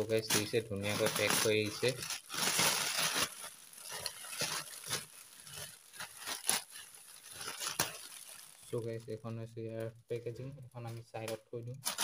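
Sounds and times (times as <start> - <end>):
bubble wrap crinkling: 0.0 - 10.0, 10.8 - 12.0.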